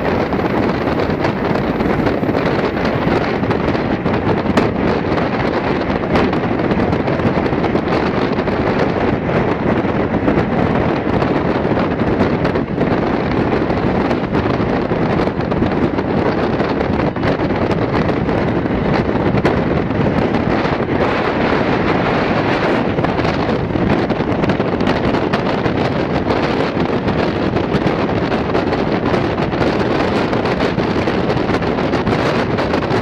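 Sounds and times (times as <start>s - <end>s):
train rushing and rumbling: 0.0s - 33.0s
wind blasting microphone: 0.0s - 33.0s.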